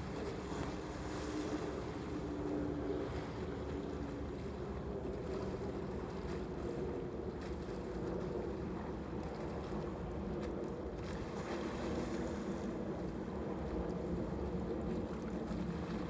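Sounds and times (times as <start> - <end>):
waves lapping: 0.0 - 16.0.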